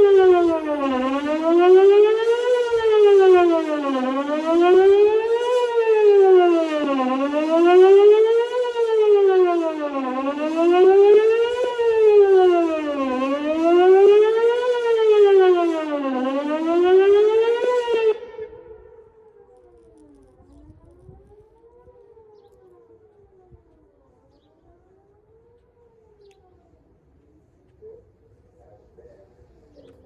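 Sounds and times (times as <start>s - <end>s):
warning siren wail: 0.0s - 30.0s.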